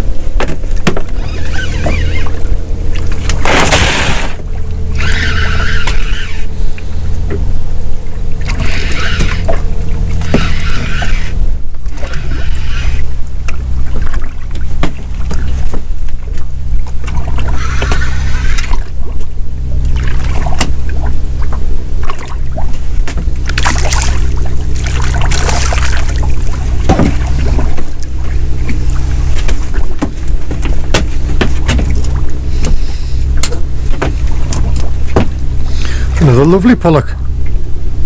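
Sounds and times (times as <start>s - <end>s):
boat engine humming: 0.0s - 38.0s.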